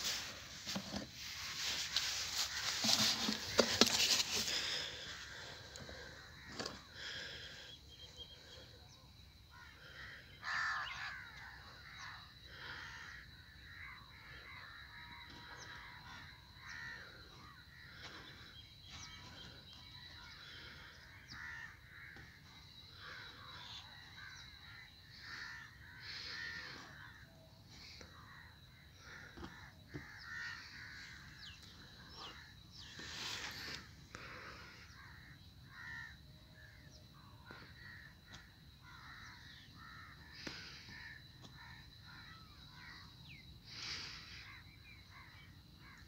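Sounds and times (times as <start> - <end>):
crows cawing: 0.0 - 7.7, 9.4 - 46.0.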